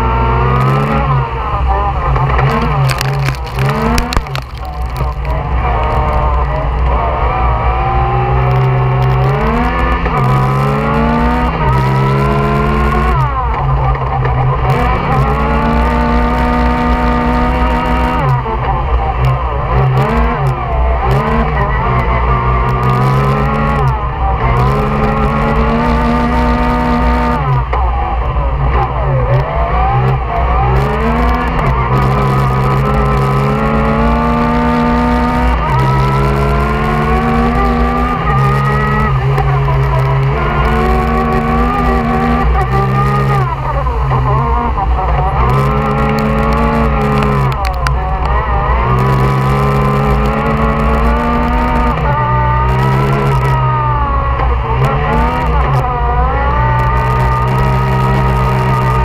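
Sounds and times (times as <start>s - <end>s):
engine revving hard: 0.0s - 59.0s.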